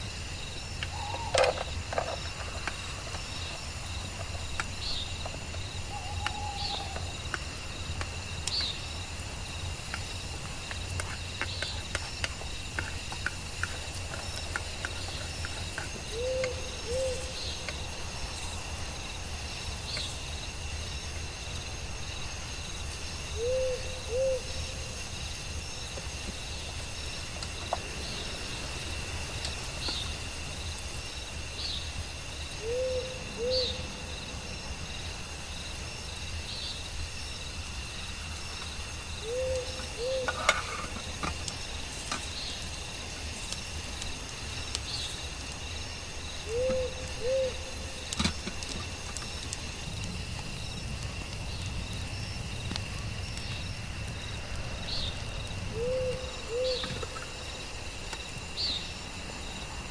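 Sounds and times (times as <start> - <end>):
high drone of insects: 0.0 - 59.9.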